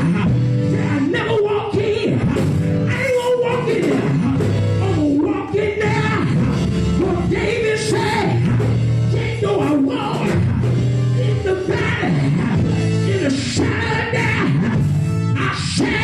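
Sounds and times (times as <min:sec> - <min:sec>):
band accompaniment: 0:00.0 - 0:16.0
man singing gospel: 0:00.0 - 0:16.0.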